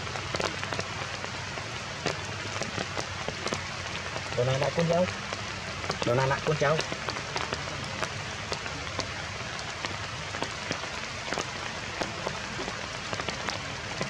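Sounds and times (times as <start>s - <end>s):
heavy rain hissing: 0.0s - 14.0s
raindrops striking close by: 0.0s - 14.0s.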